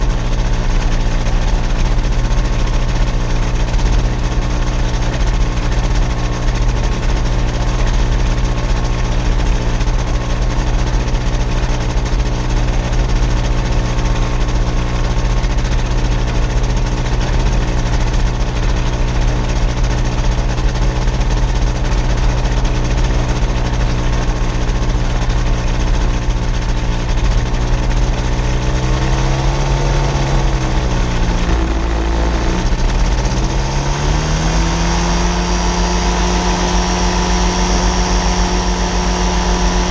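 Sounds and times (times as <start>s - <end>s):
gyrocopter engine and propeller: 0.0s - 39.9s.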